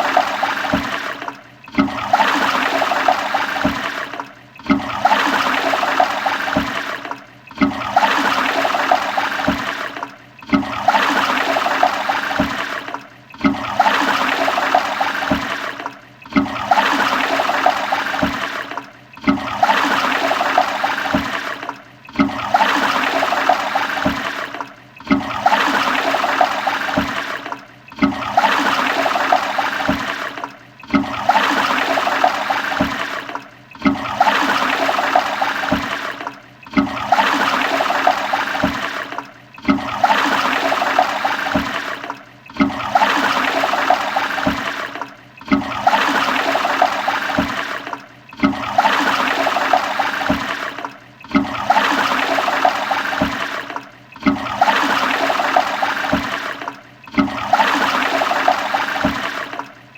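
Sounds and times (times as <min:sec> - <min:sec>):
toilet flushing: 0:00.0 - 0:59.9.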